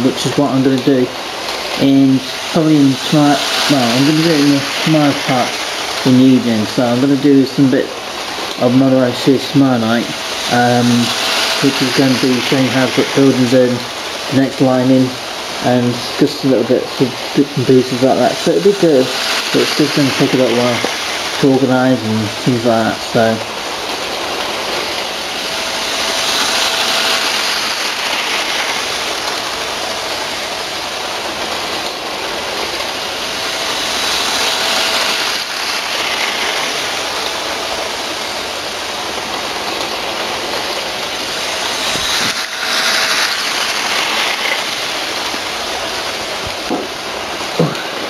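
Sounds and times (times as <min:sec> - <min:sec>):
faint motor whine: 0:00.0 - 0:48.0
model train whirring on track: 0:00.0 - 0:48.0.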